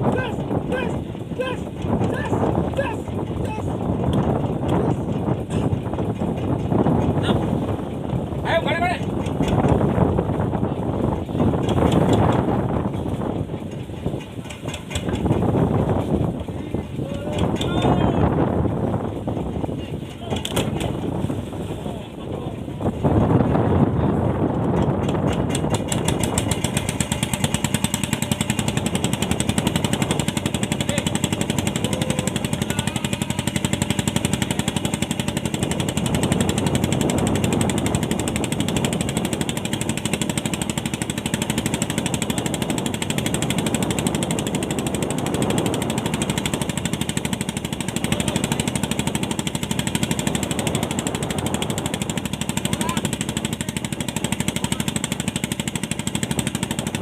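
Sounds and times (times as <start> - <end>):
boat engine knocking: 0.0 - 57.0.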